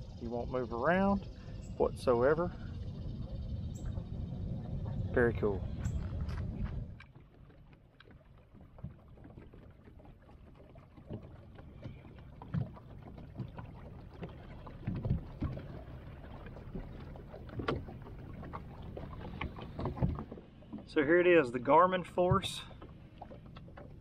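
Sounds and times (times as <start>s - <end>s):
water lapping against hull: 0.0s - 24.0s.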